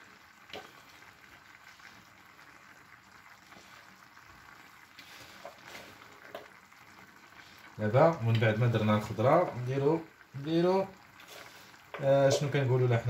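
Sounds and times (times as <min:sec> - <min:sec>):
food bubbling and sizzling: 0:00.0 - 0:13.0.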